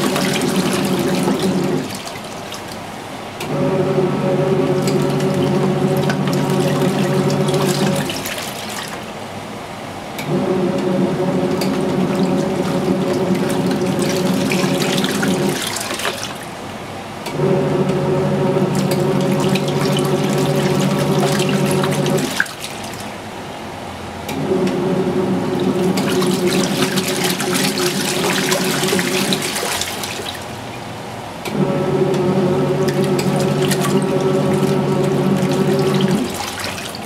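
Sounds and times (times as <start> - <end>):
washer motor humming: 0.0 - 37.0
water sloshing and splashing: 0.0 - 37.0.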